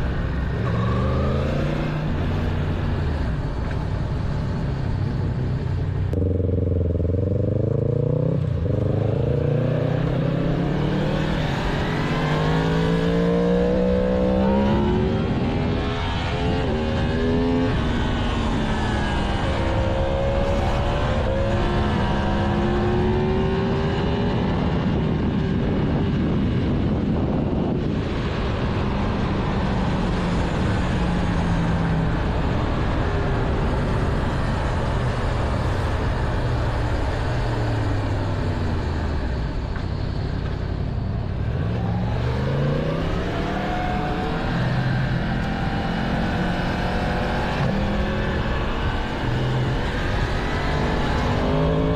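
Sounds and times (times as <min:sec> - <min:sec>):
motorcycle engine revving through gears: 0:00.0 - 0:51.9.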